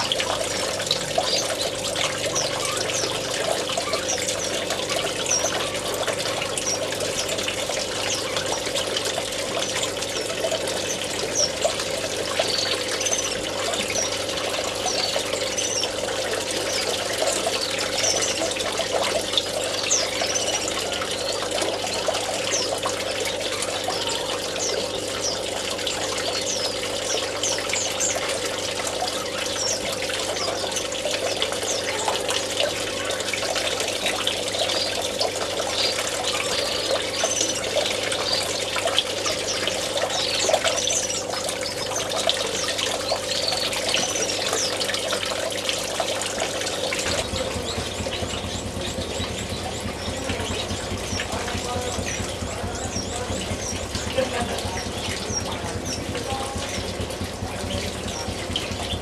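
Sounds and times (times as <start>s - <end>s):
finches chirping: 0.0s - 59.0s
water trickling: 0.0s - 59.0s.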